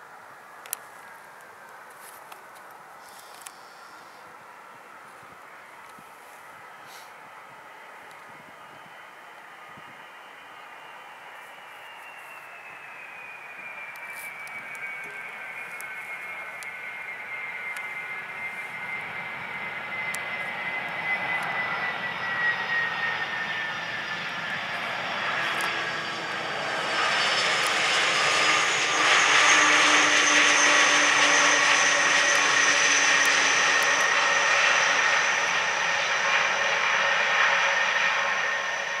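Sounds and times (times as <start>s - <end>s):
rush of jet engine noise: 0.0s - 39.0s
jet engines whining: 3.1s - 39.0s.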